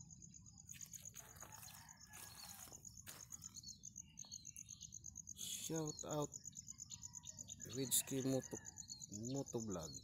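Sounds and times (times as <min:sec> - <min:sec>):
faint insect chirping: 0:00.0 - 0:10.0.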